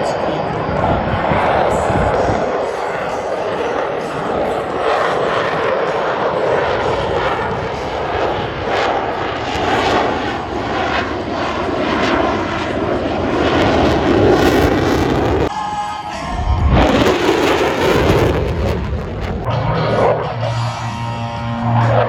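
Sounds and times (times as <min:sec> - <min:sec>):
propeller airplane engines droning: 0:00.0 - 0:22.0.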